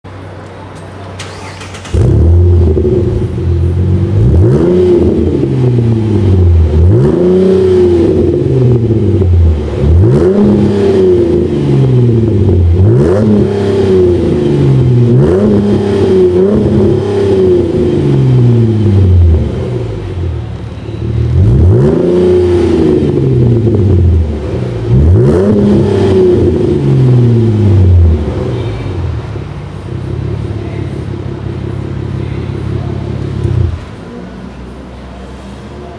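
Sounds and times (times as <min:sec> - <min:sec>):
car engine revving: 0:01.2 - 0:34.1.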